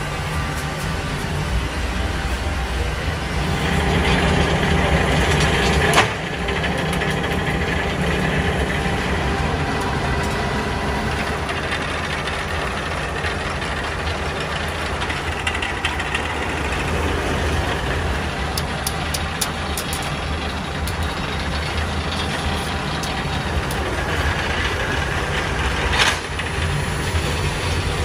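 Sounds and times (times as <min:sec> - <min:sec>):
machinery rumbling and humming: 0:00.0 - 0:28.0.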